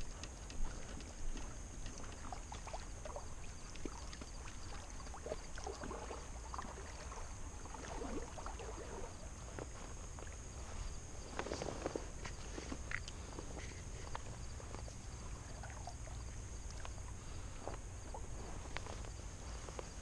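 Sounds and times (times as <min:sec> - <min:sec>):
water sloshing around wading legs: 0:00.0 - 0:20.0.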